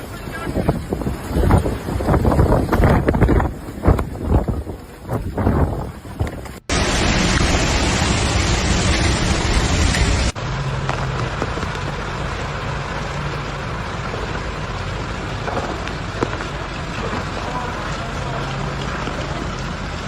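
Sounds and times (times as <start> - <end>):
loud rushing outdoor noise: 0.0 - 20.0.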